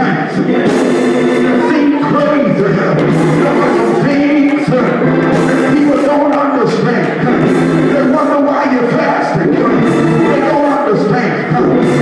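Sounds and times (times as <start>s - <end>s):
music with singing: 0.0s - 12.0s.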